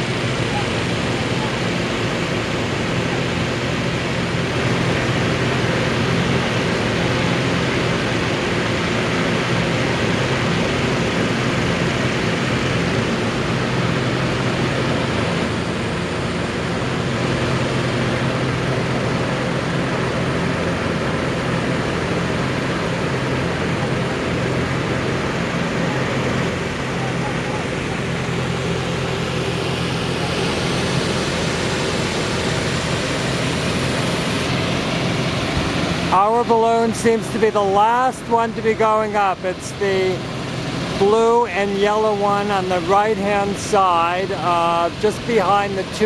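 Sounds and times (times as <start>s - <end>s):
inflator fans roaring: 0.0s - 46.0s.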